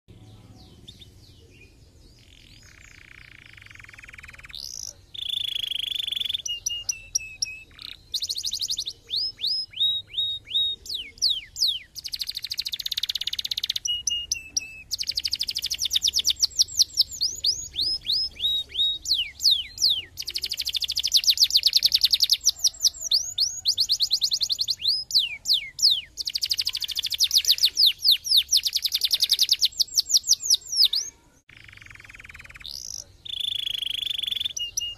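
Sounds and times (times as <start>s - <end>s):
canary singing: 0.1s - 34.9s.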